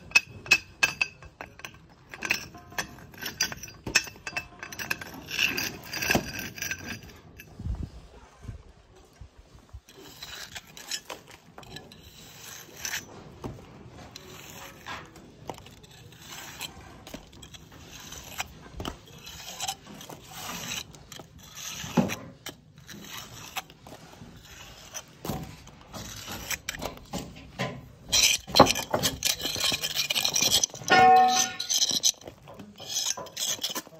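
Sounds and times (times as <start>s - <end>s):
jointing iron scraping brick mortar: 0.0s - 8.4s, 9.6s - 33.9s.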